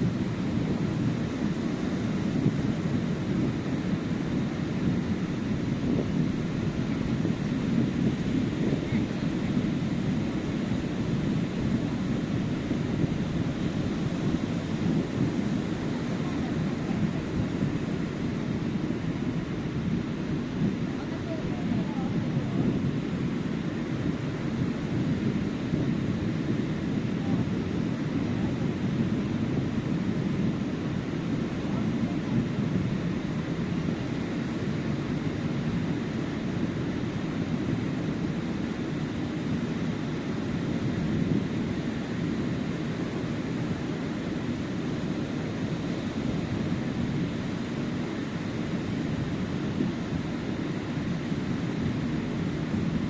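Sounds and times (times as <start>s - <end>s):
waves rolling onto beach: 0.0s - 53.0s.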